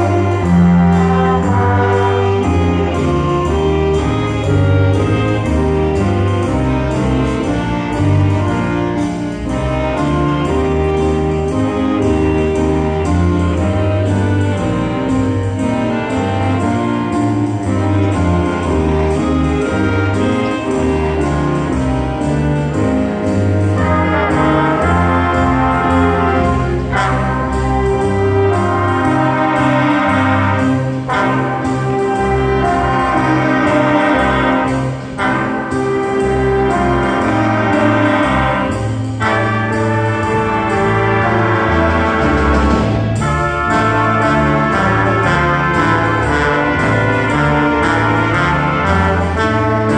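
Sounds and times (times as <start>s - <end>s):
brass band music: 0.0s - 49.9s.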